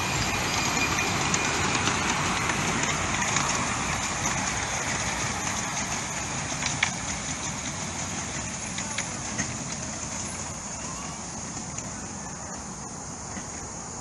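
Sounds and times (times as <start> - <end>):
miniature steam train running: 0.0 - 14.0.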